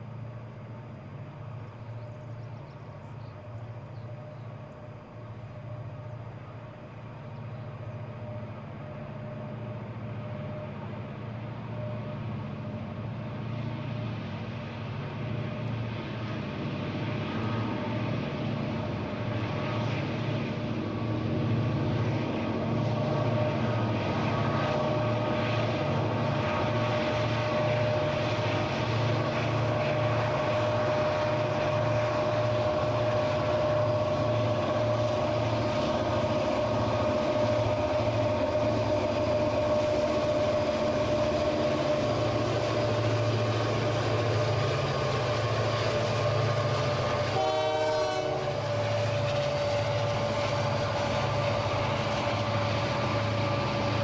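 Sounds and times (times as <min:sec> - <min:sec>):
diesel locomotive engines droning: 0:00.0 - 0:54.0
locomotive turbo whine: 0:00.0 - 0:54.0.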